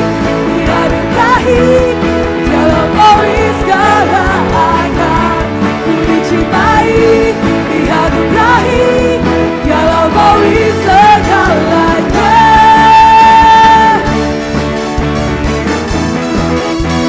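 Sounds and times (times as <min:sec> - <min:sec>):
live worship band playing: 0:00.0 - 0:17.0.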